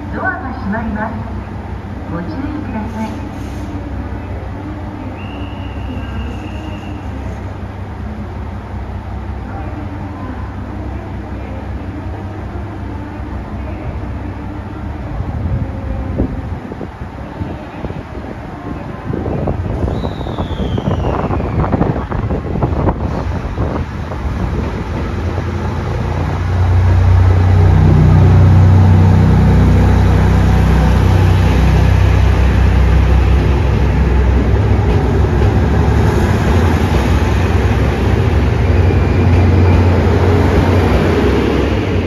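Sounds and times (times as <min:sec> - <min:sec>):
diesel train engine droning: 0:00.0 - 0:42.0
rush of train cars passing: 0:00.0 - 0:42.0.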